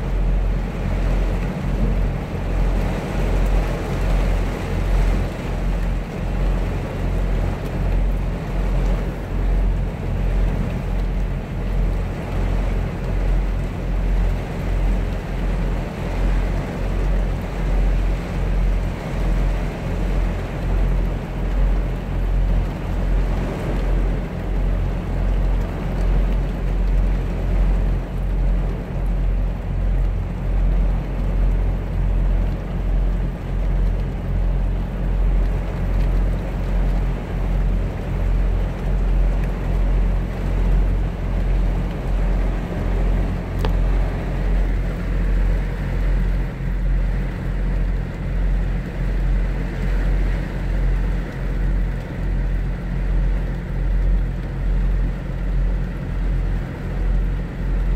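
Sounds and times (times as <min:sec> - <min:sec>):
rain on truck windshield: 0:00.0 - 0:57.9.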